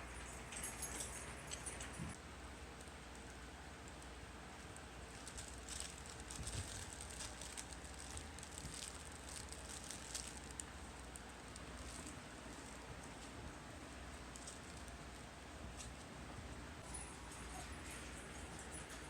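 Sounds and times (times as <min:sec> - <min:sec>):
puppy paws clicking and scuffling: 0:00.0 - 0:02.2, 0:02.8 - 0:19.0.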